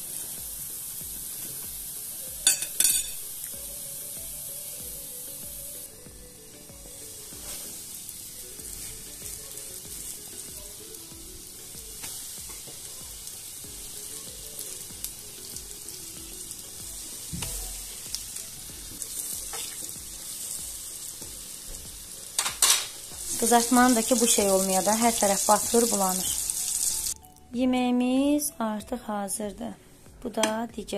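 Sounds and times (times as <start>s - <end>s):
fish sizzling in oil: 0.0s - 27.2s.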